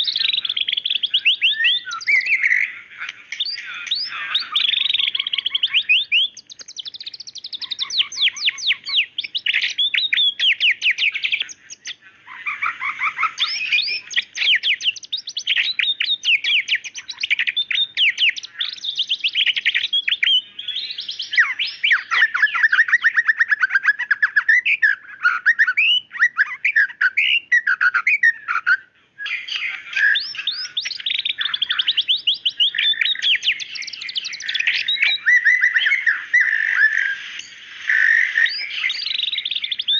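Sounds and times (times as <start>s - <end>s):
bird song with trills and whistles: 0.0s - 39.9s.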